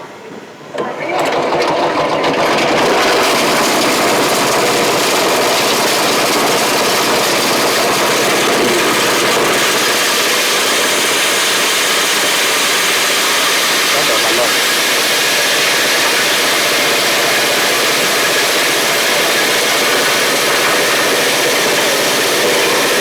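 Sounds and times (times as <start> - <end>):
milling machine grinding maize: 0.8 - 23.0.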